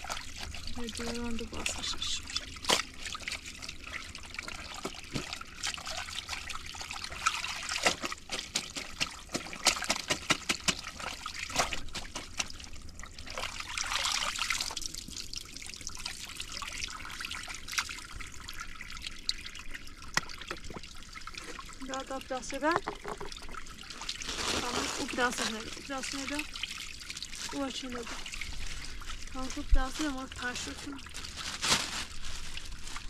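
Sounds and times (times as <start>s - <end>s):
water trickling: 0.0s - 10.1s, 10.7s - 33.0s
small clicks and splashes: 0.0s - 33.0s.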